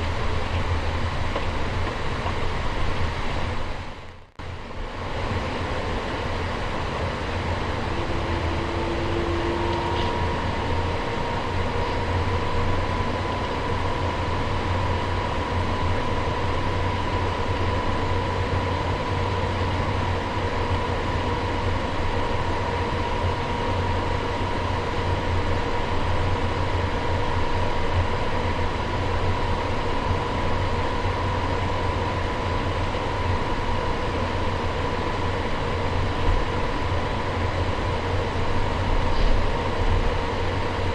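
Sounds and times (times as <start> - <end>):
airplane cabin low rumble: 0.0 - 40.9
jet engine whine: 0.0 - 40.9.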